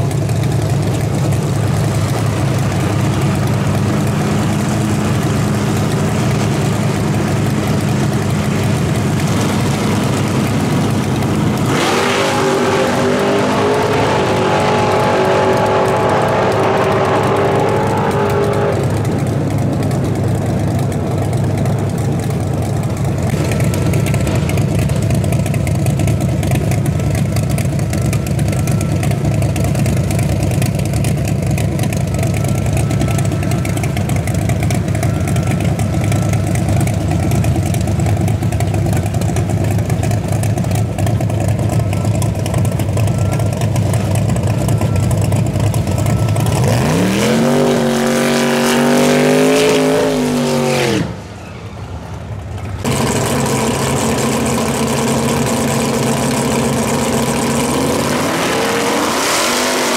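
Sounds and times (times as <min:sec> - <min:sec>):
low engine rumble: 0:00.0 - 0:59.0
drag car engine revving: 0:00.0 - 0:59.9.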